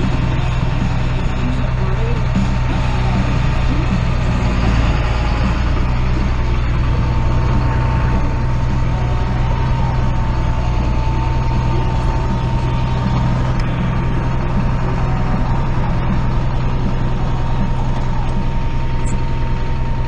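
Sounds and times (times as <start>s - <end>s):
thin steady whine: 0.0s - 20.0s
tractor diesel engine running: 0.0s - 20.0s.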